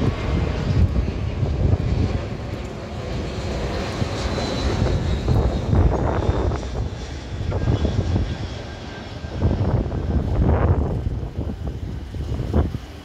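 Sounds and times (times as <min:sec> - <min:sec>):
jet engines rumbling overhead: 0:00.0 - 0:13.0.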